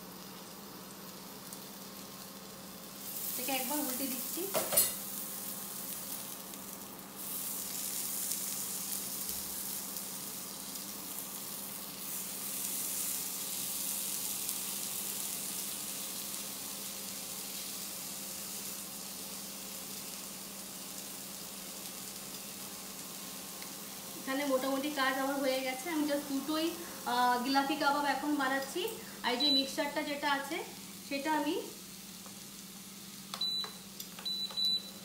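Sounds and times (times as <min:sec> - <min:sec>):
kebabs sizzling: 0:00.0 - 0:35.0.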